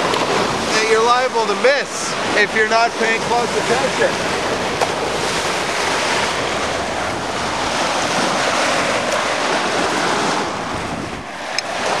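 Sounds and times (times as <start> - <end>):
small waves breaking on sand: 0.0 - 12.0
wind buffeting microphone: 0.0 - 12.0.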